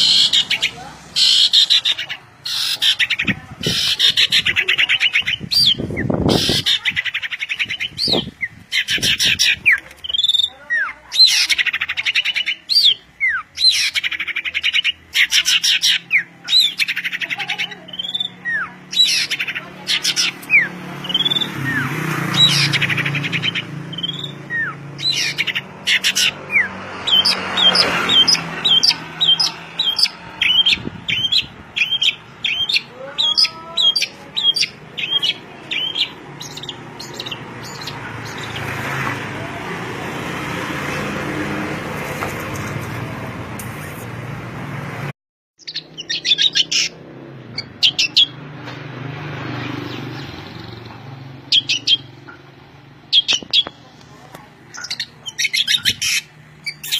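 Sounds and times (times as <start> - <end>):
songbird singing trills: 0.0 - 38.8, 45.6 - 48.4, 49.6 - 52.5, 53.1 - 53.8, 54.7 - 56.9.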